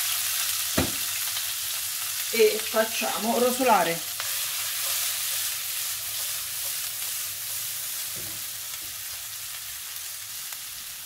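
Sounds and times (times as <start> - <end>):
peppers sizzling in a frying pan: 0.0 - 11.0.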